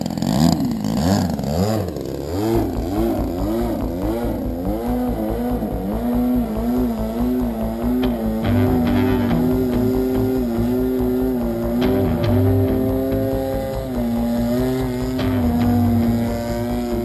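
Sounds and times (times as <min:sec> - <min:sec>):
model plane two-stroke engine revving: 0:00.0 - 0:17.0.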